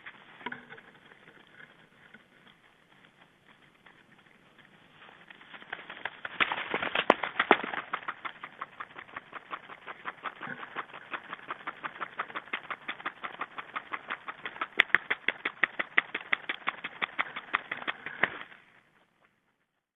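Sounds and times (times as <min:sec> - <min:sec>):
bird pecking at seed: 0:00.0 - 0:19.2.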